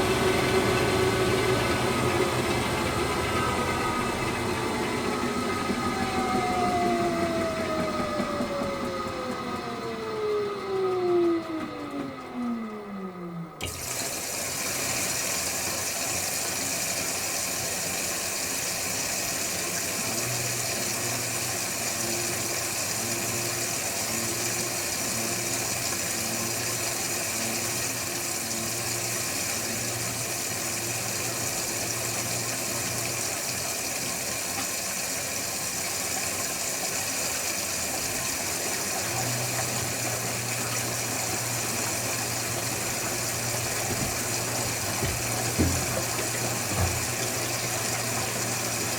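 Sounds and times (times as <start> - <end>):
washing machine running: 0.0 - 48.9.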